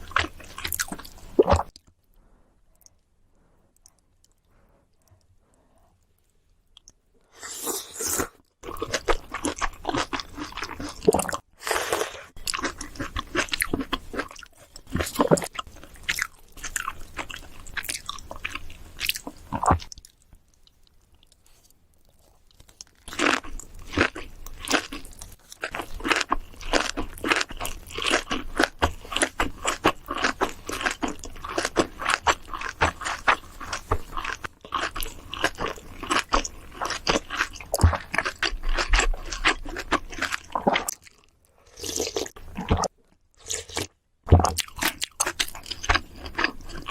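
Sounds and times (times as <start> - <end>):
person chewing crunchy food: 0.0 - 1.9, 6.8 - 46.9.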